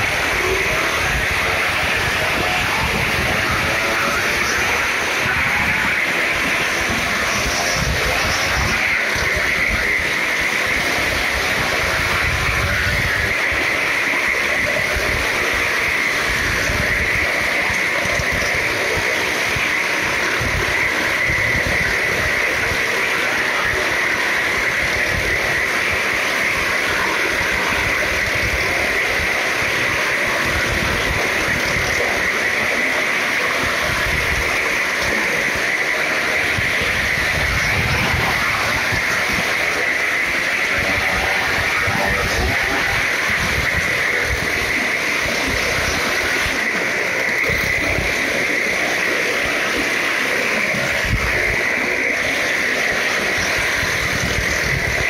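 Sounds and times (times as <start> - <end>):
engines droning in drum: 0.0 - 55.0.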